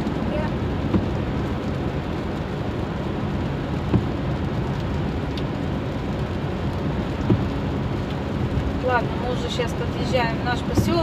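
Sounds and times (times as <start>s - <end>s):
car cabin road and engine noise: 0.0s - 11.0s
tyres on wet road: 0.0s - 11.0s.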